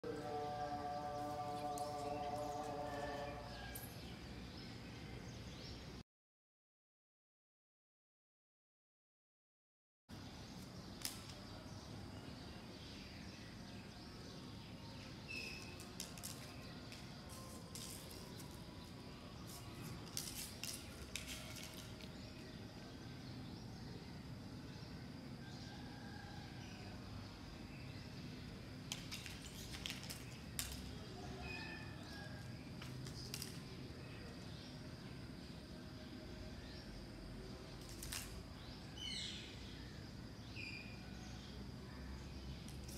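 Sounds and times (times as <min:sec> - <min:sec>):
faint outdoor background noise: 0:00.0 - 0:06.0, 0:10.1 - 0:42.9
low background noise: 0:00.0 - 0:06.0, 0:10.1 - 0:42.9.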